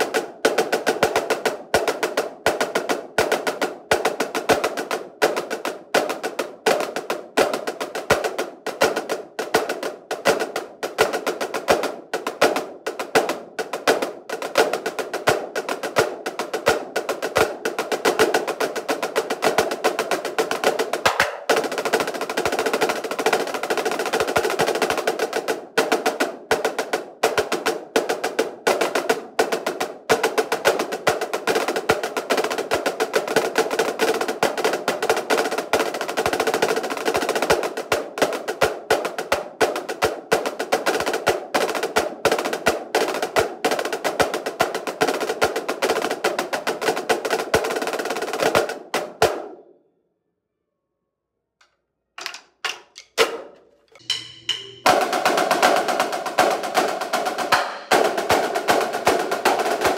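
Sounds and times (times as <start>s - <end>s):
marching snare drums: 0.0s - 49.6s, 52.2s - 59.9s.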